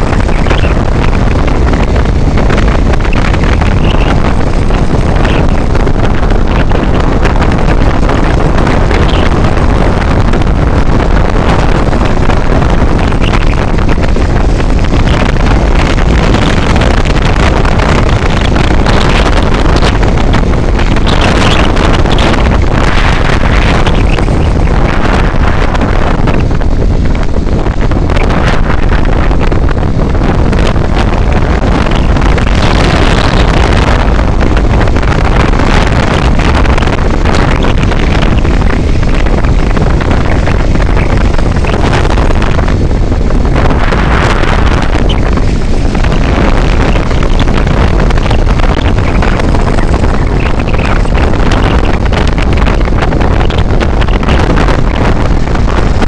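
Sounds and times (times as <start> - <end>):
vehicle engine and road noise: 0.0 - 56.0
wind noise on microphone: 0.0 - 56.0.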